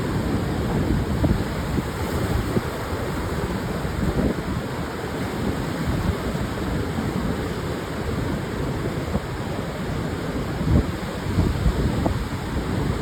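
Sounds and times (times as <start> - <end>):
waves breaking on beach: 0.0 - 13.0
wind rumble on microphone: 0.0 - 13.0.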